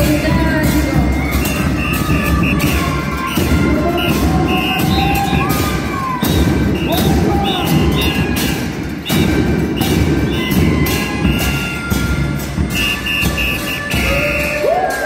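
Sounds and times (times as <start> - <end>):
bass drums pounding: 0.0 - 14.7
sharp high whistle notes: 1.2 - 15.0.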